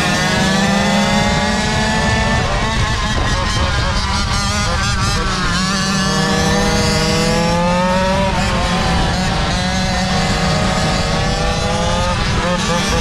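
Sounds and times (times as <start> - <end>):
small two-stroke engine revving: 0.0 - 13.0
steady engine note: 0.0 - 13.0.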